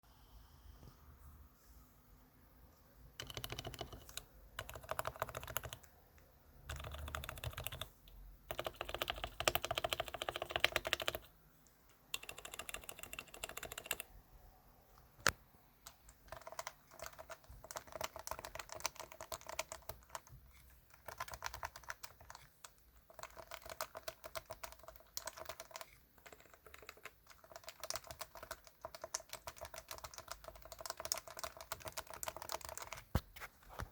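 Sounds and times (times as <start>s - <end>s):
muted keyboard typing: 3.2s - 5.9s, 6.6s - 14.1s, 15.2s - 33.3s.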